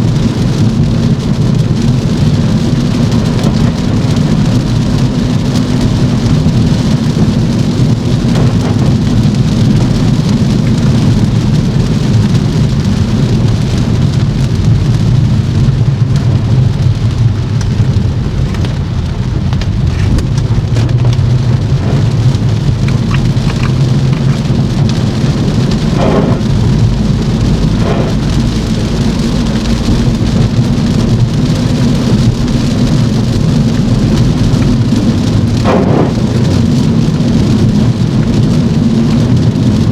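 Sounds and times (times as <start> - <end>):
low car rumble: 0.0 - 39.9
rain hiss: 0.0 - 39.9
wet tyres on road: 0.0 - 39.9.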